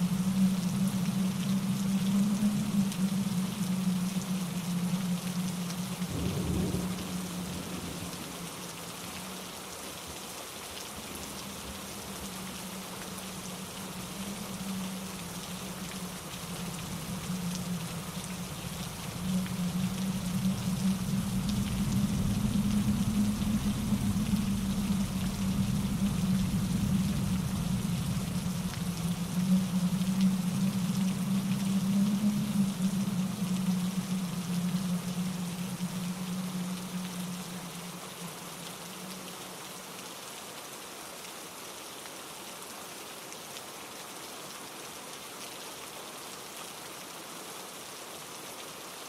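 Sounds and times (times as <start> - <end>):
rain on leaves and ground: 0.0 - 49.0
wind through trees: 0.0 - 49.0.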